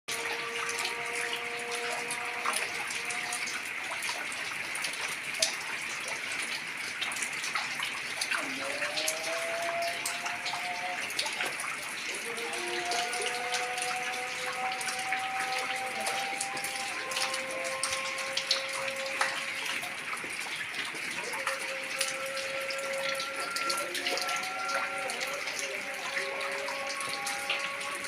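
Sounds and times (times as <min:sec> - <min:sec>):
heavy rain: 0:00.1 - 0:28.0
water drip clicks: 0:00.1 - 0:28.0
water running and splashing: 0:00.1 - 0:28.0.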